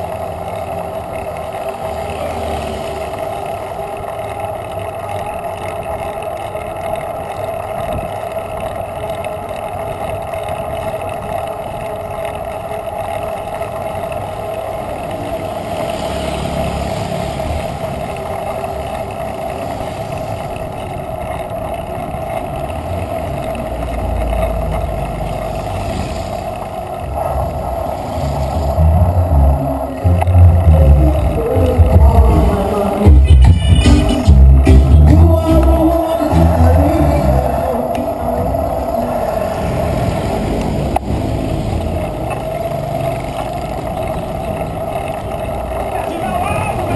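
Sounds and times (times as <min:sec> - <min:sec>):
bicycle road noise: 0:00.0 - 0:46.9
low engine rumble: 0:00.0 - 0:46.9
motorbike passing: 0:00.0 - 0:46.9.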